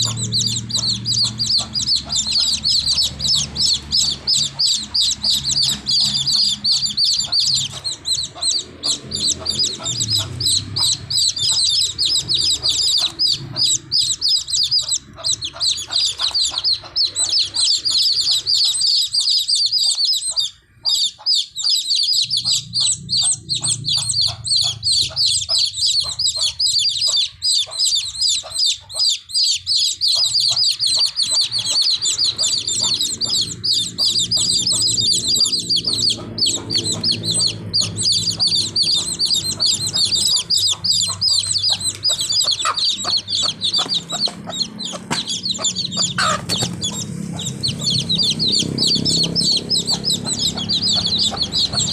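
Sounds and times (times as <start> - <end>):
baby chicks peeping: 0.0 - 51.9.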